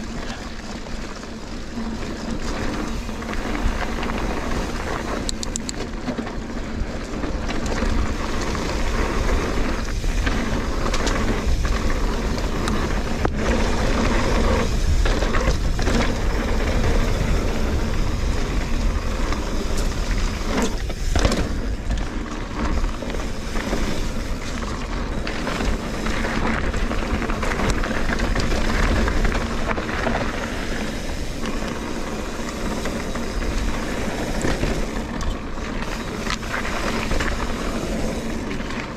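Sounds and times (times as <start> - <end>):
bike clattering over bumps: 0.0 - 38.9
tyres rolling on dirt: 0.0 - 38.9.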